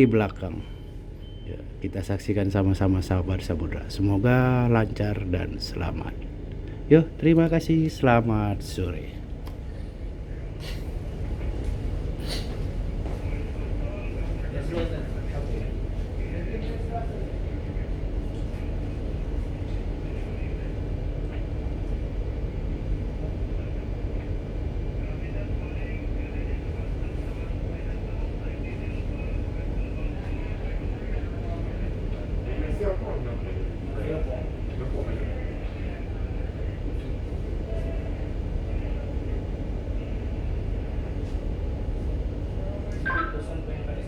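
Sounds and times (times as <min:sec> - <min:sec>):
faint machinery hum: 0:00.0 - 0:44.0
ship low rumble: 0:00.0 - 0:44.0.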